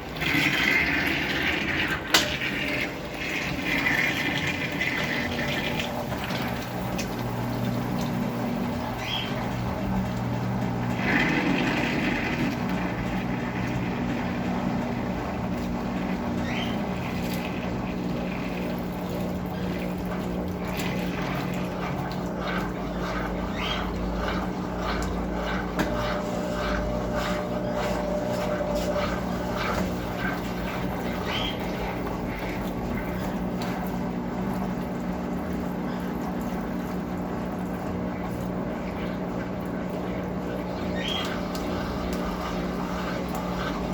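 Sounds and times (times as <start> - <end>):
washing machine motor hum: 0.0 - 43.9
water swishing in tub: 0.0 - 43.9.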